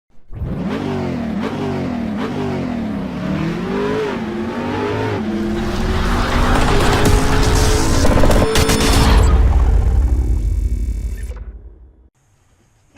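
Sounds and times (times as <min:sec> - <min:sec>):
car engine revving: 0:00.2 - 0:12.1.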